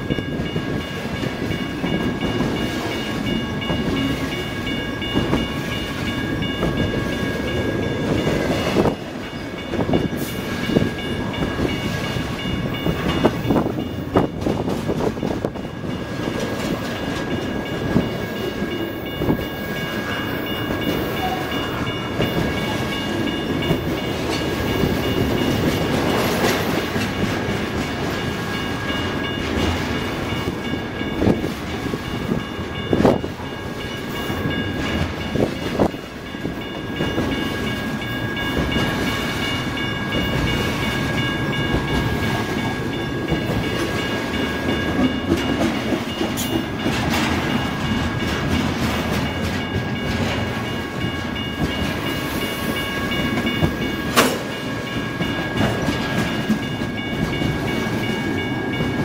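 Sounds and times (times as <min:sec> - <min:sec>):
train clanking over rail joints: 0:00.0 - 0:59.0
train wheels rumbling on rails: 0:00.0 - 0:59.0.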